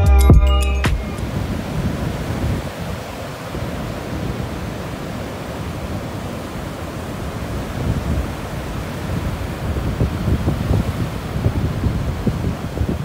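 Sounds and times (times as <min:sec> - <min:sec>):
waves breaking on beach: 0:01.0 - 0:13.0.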